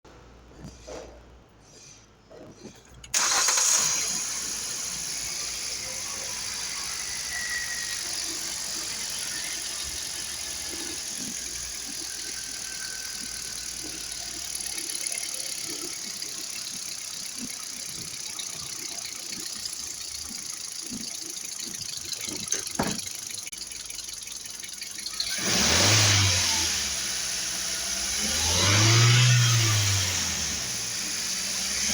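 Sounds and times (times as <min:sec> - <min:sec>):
car engine starting and idling: 0:01.7 - 0:31.9.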